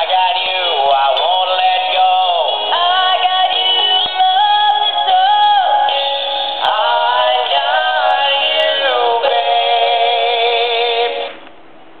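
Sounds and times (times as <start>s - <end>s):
toy singing in electronic voices: 0.0s - 11.3s.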